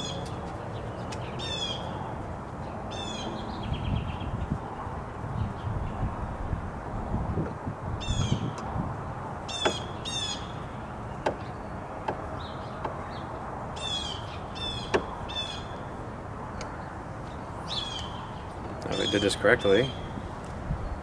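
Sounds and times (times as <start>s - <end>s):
birds calling: 0.0s - 21.0s
low wind rumble: 0.0s - 21.0s.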